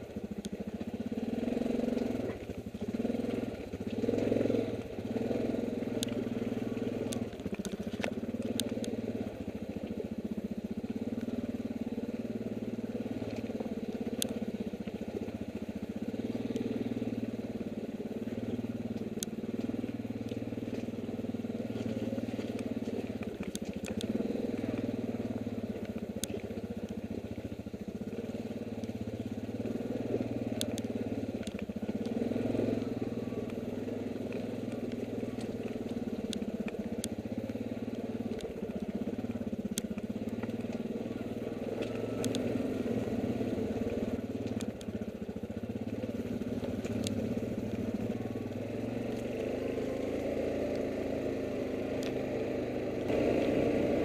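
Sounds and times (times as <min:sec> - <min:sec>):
quad engine running: 0:00.0 - 0:54.0
sharp clicks and ticks: 0:00.0 - 0:54.0.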